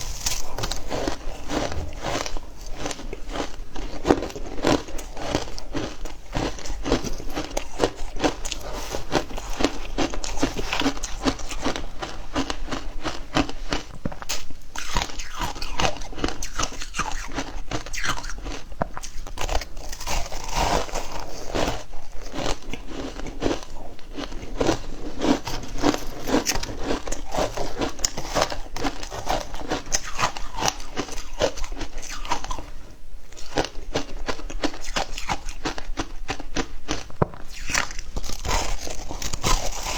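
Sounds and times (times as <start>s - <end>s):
ice being chewed with crunches: 0.0s - 39.9s.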